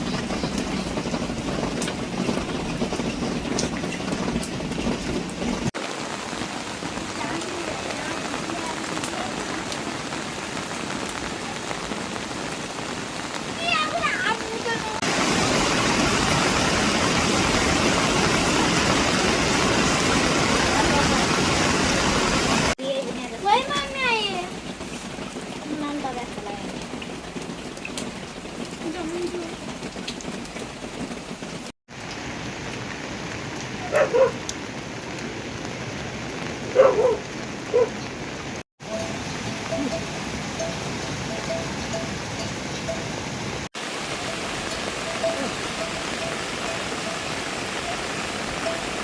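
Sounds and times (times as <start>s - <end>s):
heavy rain: 0.0s - 49.0s
water rushing: 0.0s - 49.0s.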